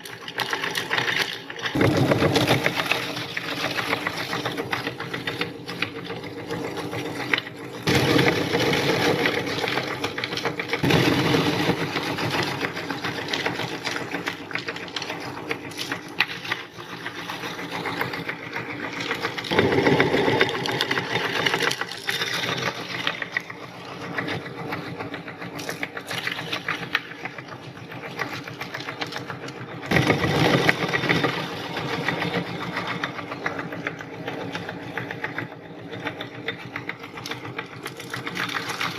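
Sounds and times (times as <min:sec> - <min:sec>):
electric meat grinder motor: 0:00.0 - 0:38.9.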